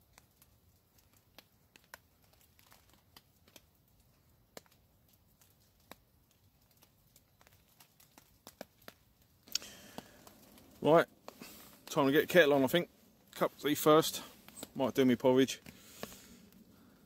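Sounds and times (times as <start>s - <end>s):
rain drips on a tarp: 0.0s - 17.0s.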